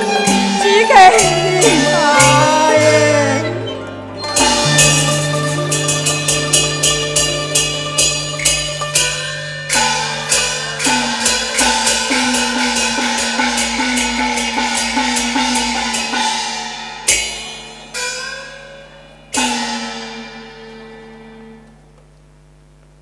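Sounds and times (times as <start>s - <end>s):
sharp percussion strokes: 0.0s - 21.7s.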